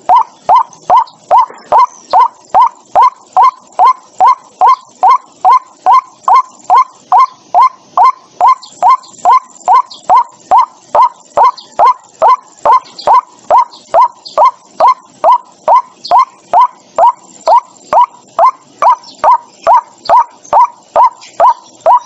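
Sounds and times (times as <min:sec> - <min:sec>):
waterhen harsh rising call: 0:00.0 - 0:22.0.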